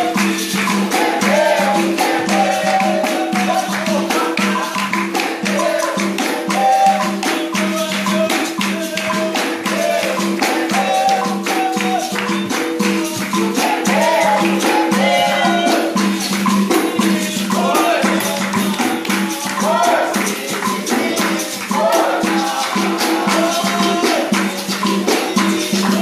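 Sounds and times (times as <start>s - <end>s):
shaker rattles: 0.0s - 26.0s
tambourine rhythm: 0.0s - 26.0s
voices singing: 0.0s - 26.0s.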